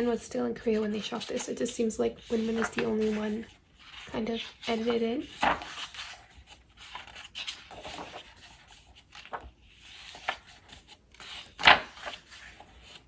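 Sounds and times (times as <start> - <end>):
paper pages rustling: 0.0 - 13.0.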